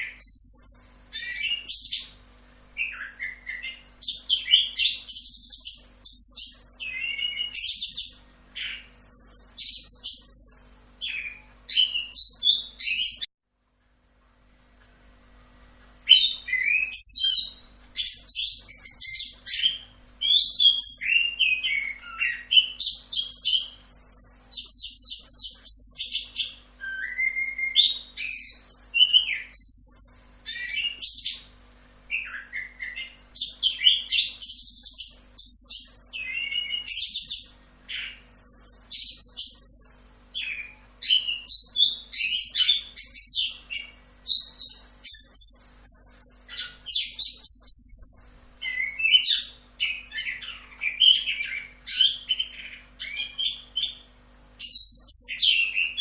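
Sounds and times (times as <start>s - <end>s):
bird singing: 0.0s - 13.3s, 16.0s - 56.0s.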